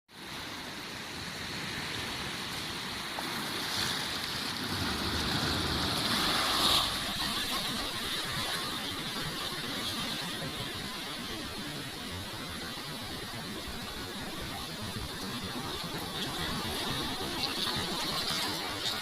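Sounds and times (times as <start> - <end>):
sea surf washing ashore: 0.2 - 19.0.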